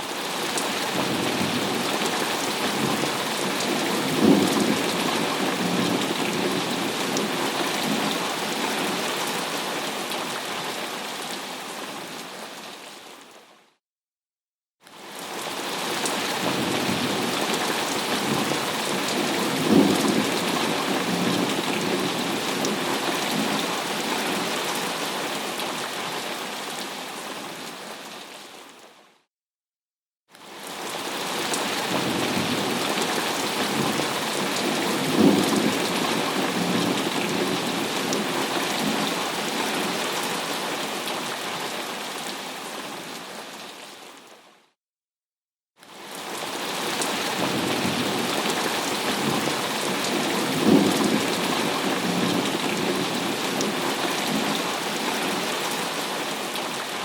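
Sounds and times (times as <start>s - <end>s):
heavy rain: 0.0s - 13.4s, 15.0s - 28.8s, 30.4s - 44.4s, 45.9s - 57.0s.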